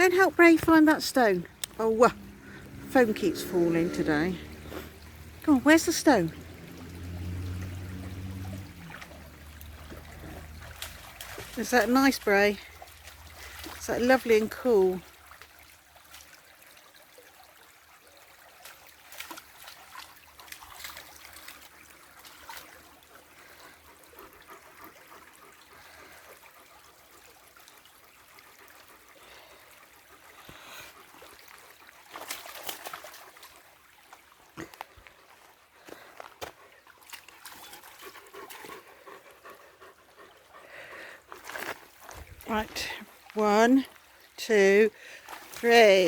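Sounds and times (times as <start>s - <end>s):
dogs splashing in water: 0.0s - 46.0s
shallow river trickling: 0.0s - 46.0s.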